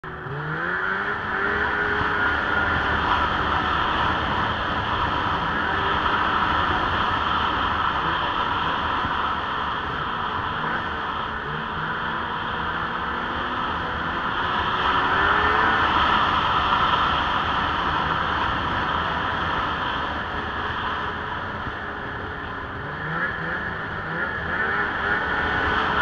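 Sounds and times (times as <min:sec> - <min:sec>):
snowmobile engine running: 0:00.0 - 0:26.0
steady rushing noise: 0:00.0 - 0:26.0.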